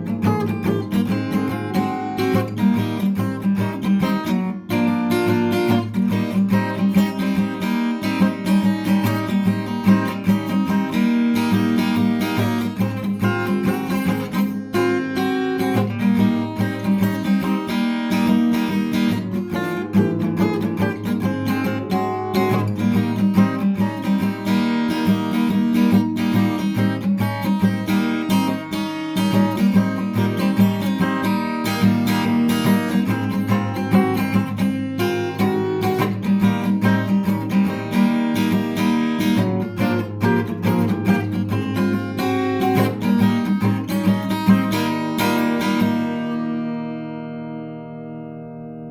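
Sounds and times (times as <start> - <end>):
acoustic guitar strumming and picking: 0.0 - 48.9.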